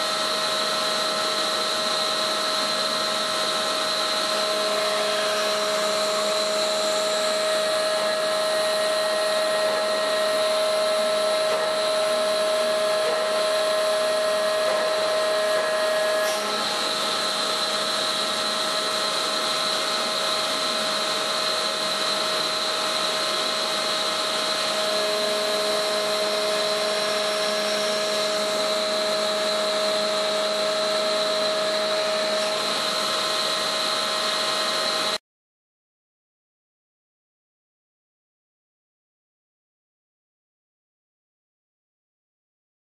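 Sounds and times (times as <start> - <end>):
hydraulic pump whining: 0.0 - 35.2.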